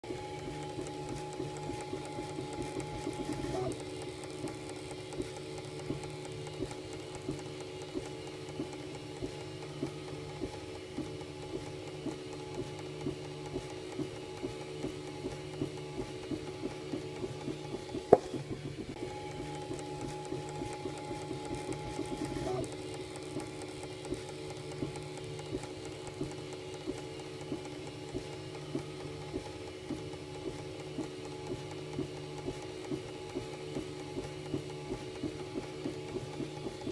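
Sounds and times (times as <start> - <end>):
printer hum: 0.0 - 36.9
printer feeder ticking: 0.1 - 36.9.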